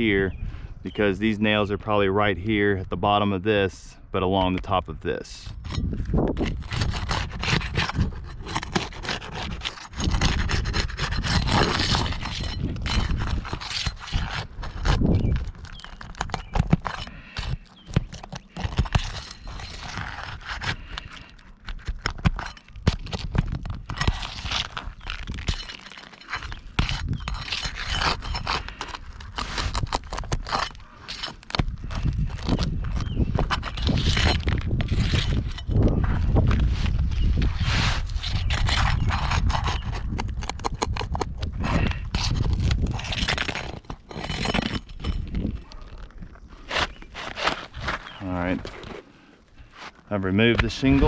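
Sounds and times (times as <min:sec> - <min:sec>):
scraping on roof shingles: 0:06.2 - 0:51.0.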